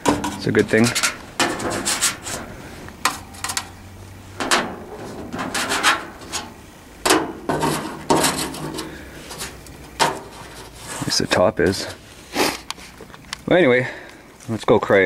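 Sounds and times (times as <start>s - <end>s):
scraping and rubbing: 0.0s - 13.1s.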